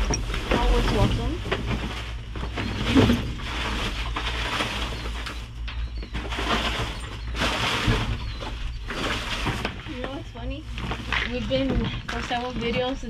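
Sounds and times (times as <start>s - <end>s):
plastic and cardboard rustling: 0.0s - 13.0s
steady low hum: 0.0s - 13.0s.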